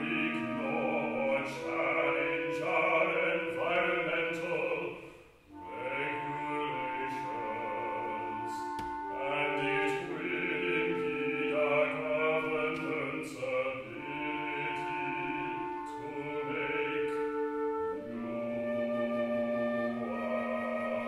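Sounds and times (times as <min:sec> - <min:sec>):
operatic voices singing chords: 0:00.0 - 0:18.6.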